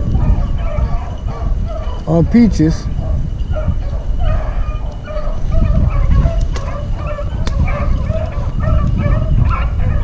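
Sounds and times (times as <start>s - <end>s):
dogs baying and barking: 0.0s - 10.0s.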